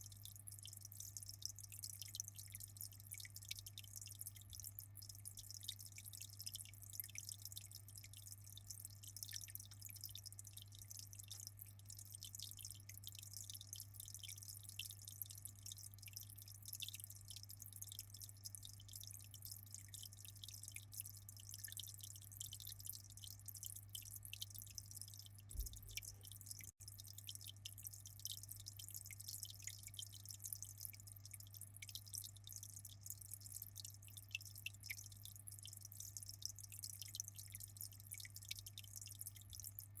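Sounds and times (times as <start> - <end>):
aquarium water trickling: 0.0 - 40.0.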